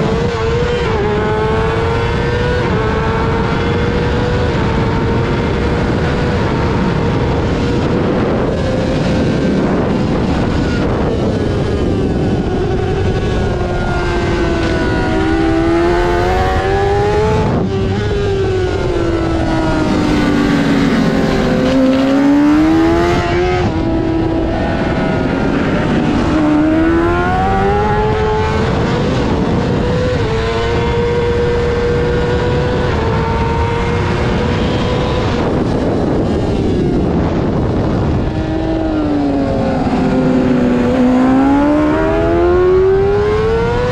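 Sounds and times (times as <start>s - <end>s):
motorcycle engine at high revs: 0.0s - 43.9s.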